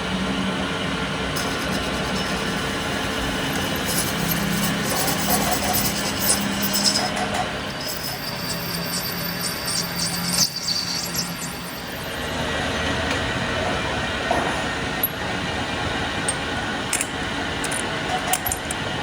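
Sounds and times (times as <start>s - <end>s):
metal lathe machining: 0.0s - 19.0s.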